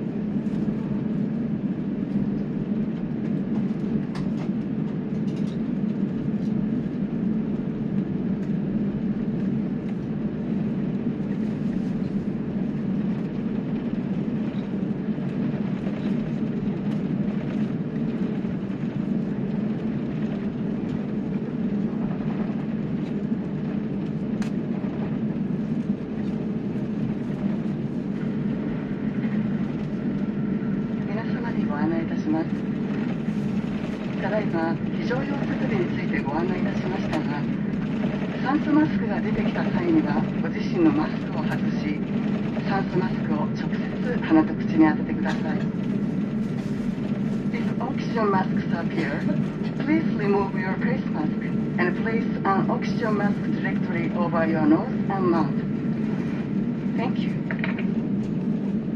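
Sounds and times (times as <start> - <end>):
airliner cabin engine rumble: 0.0 - 58.9.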